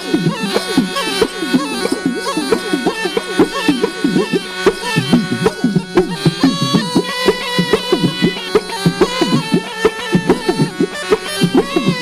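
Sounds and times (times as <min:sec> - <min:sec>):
drum beat: 0:00.0 - 0:12.0
reedy pipe melody over drone: 0:00.0 - 0:12.0.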